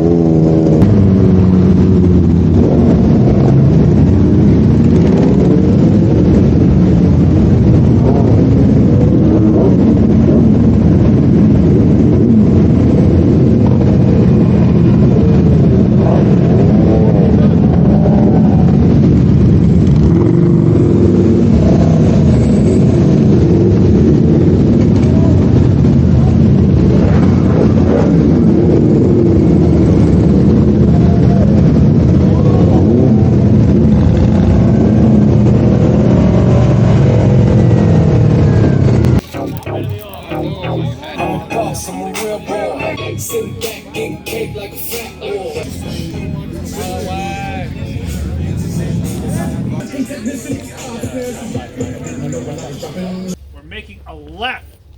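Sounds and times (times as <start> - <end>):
wind and road noise: 0.0 - 43.4, 44.5 - 54.9
motorcycle engine drone: 0.0 - 54.9.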